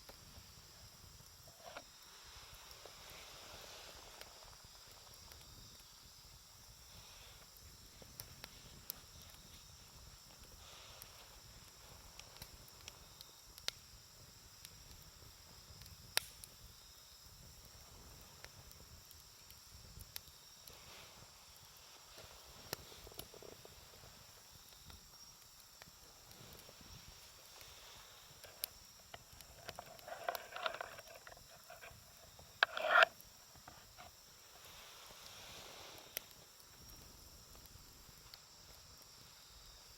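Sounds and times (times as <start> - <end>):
campfire wood crackling: 0.0 - 39.9
faint steady hiss: 0.0 - 39.9.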